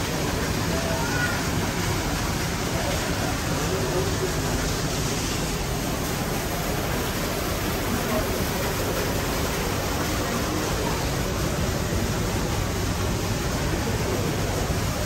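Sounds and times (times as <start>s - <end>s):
faint indistinct voices: 0.0s - 15.0s
steady ambient hiss: 0.0s - 15.0s.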